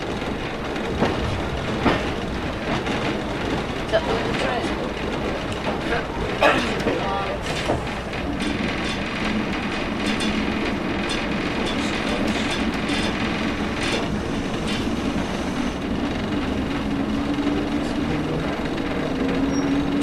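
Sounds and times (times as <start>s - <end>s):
wheels clicking over rail joints: 0.0s - 20.0s.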